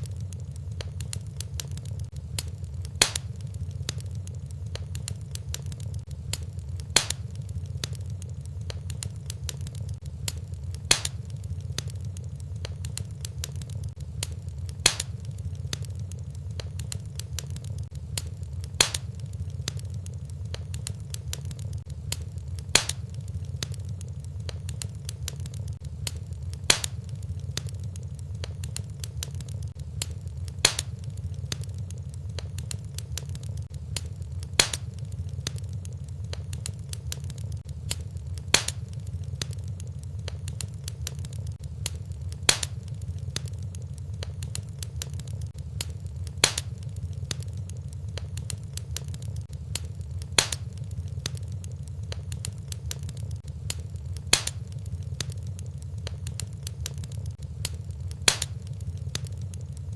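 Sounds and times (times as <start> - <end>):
fire crackling: 0.0 - 59.9
low rumble of fire: 0.0 - 59.9
sharp fire pops: 0.0 - 59.9.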